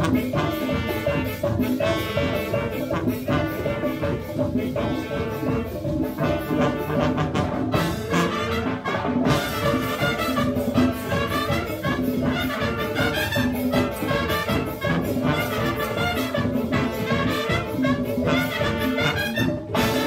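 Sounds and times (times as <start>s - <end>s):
brass melody: 0.0s - 20.0s
drums and hand percussion: 0.0s - 20.0s
marching band playing latin tune: 0.0s - 20.0s.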